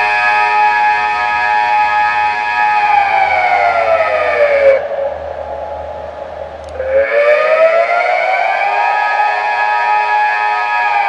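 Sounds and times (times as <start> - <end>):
civil defence siren wailing: 0.0 - 11.0.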